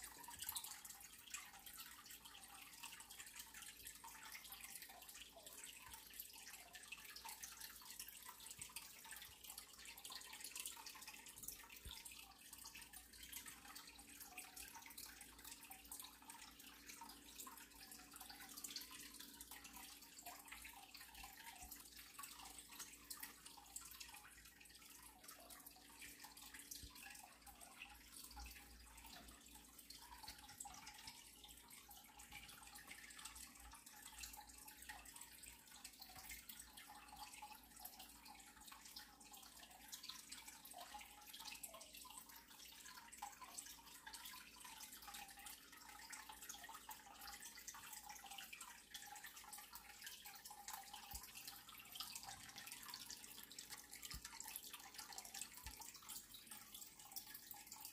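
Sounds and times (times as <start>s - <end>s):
water trickling and dripping: 0.0s - 57.9s.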